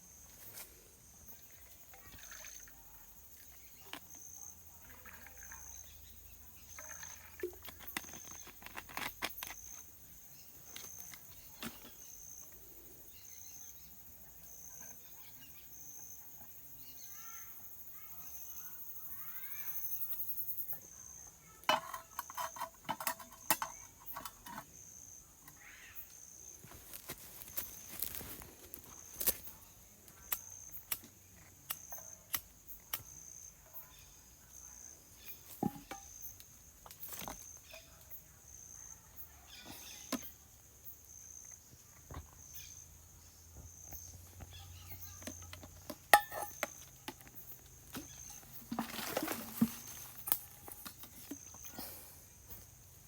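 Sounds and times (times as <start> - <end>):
insect chirping: 0.0 - 53.0
steady outdoor hiss: 0.0 - 53.0.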